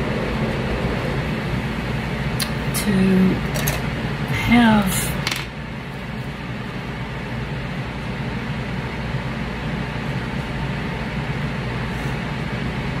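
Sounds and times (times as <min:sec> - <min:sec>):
low hum: 0:00.0 - 0:13.0
steady background noise: 0:00.0 - 0:13.0.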